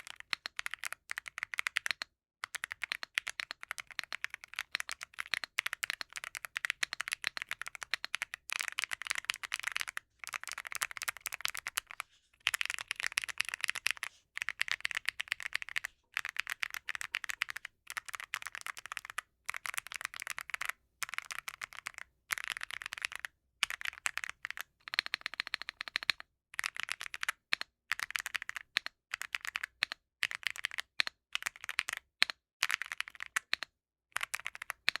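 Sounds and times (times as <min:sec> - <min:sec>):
mechanical keyboard typing: 0:00.0 - 0:35.0.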